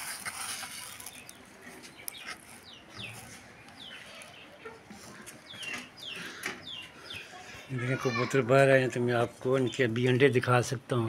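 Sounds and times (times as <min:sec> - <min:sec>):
chicks peeping: 0:00.8 - 0:10.2.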